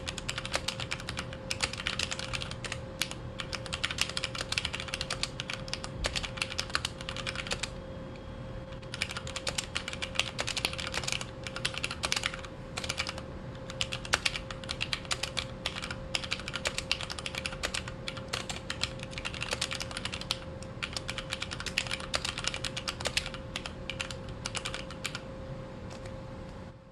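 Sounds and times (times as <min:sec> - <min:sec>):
mechanical keyboard typing: 0:00.0 - 0:07.7, 0:08.8 - 0:25.2.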